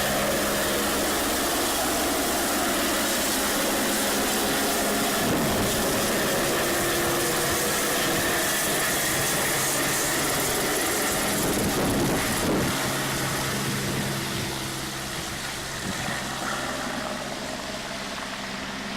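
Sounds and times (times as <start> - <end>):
helicopter turbine and rotor: 0.0 - 18.9.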